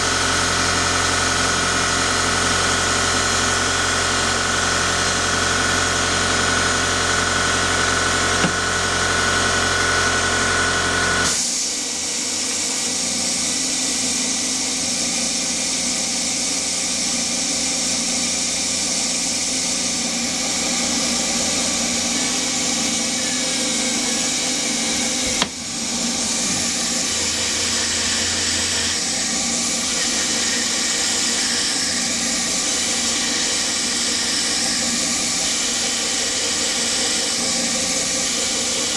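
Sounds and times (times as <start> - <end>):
air compressor humming: 0.0 - 38.9
lathe machining aluminium: 0.0 - 38.9.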